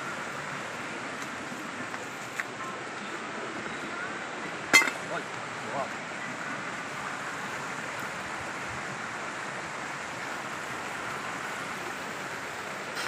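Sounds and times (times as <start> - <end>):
stream water running over stones: 0.0 - 13.0.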